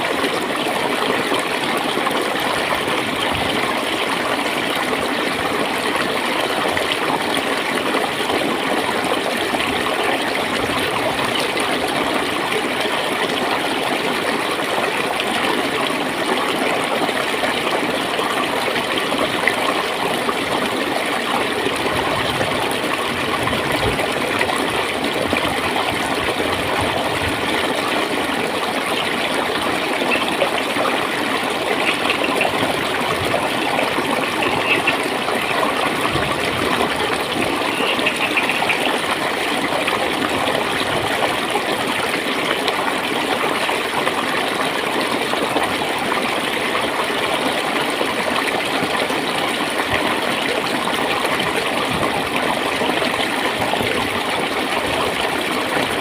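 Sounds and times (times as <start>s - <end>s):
stream flowing and gurgling: 0.0s - 56.0s.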